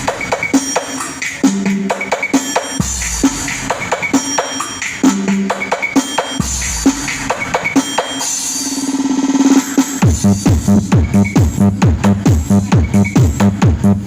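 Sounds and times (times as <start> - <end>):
electronic dance music: 0.0 - 14.0
steady bass-drum beat: 0.0 - 14.0.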